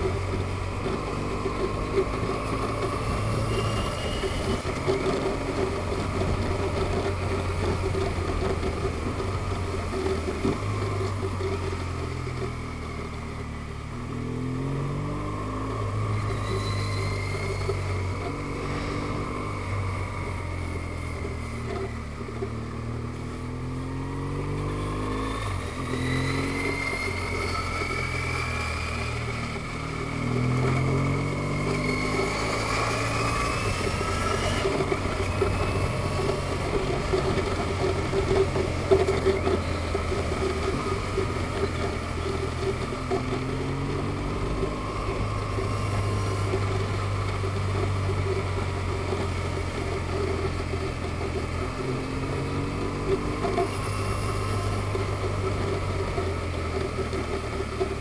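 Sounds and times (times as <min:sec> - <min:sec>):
road and wind noise: 0:00.0 - 0:58.0
vehicle engine accelerating: 0:00.0 - 0:58.0.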